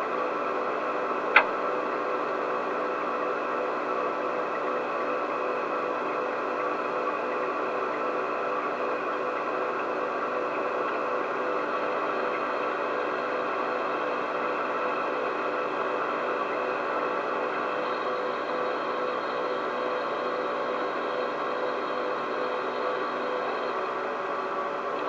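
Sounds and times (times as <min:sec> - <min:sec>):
whirring room hum with hiss: 0:00.0 - 0:25.0.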